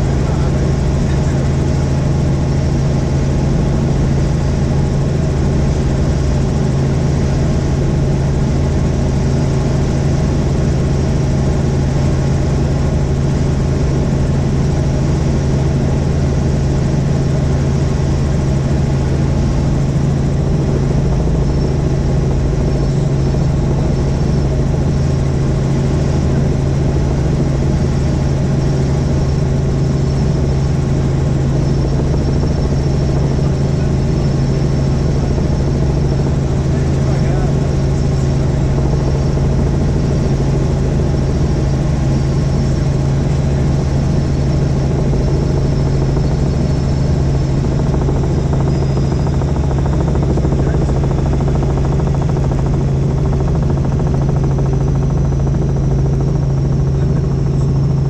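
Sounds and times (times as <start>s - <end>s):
helicopter rotors droning: 0.0s - 58.0s.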